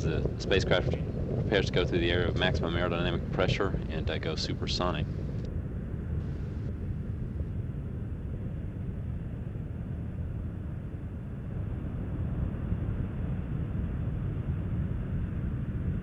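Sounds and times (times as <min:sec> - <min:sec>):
distant rocket engine rumble: 0:00.0 - 0:16.0.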